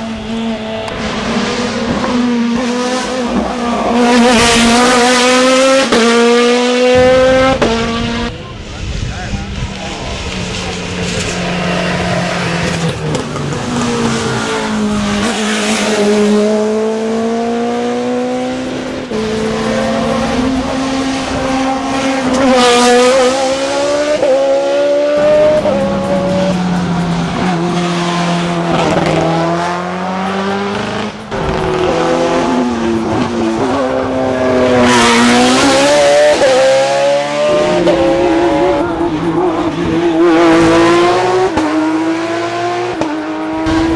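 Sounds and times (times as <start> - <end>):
race car engine at full throttle: 0.0 - 43.9.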